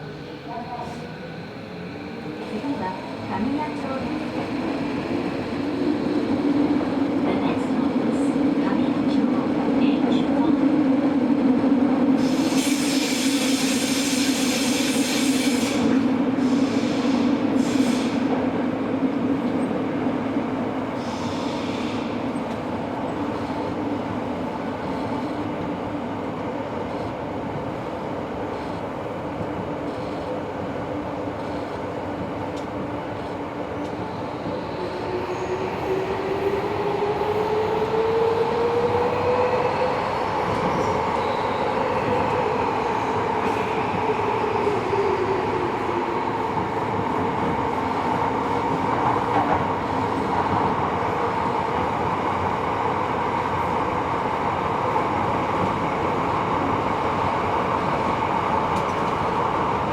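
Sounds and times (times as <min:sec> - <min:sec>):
subway car running noise: 0:00.0 - 0:59.9.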